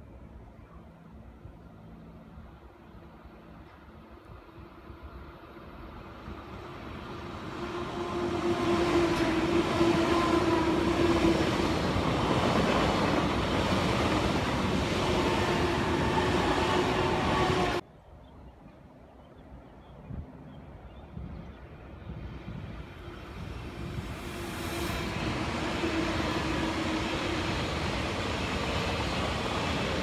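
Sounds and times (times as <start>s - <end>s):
electric train passing: 0.0s - 17.8s, 21.5s - 30.0s.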